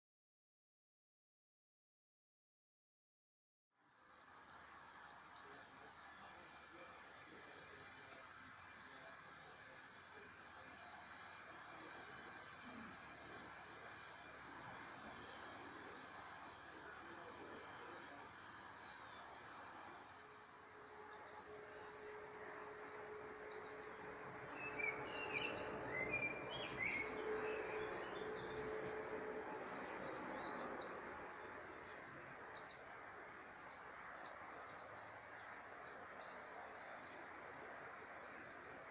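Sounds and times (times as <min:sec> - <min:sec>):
high insect trill: 0:03.8 - 0:38.9.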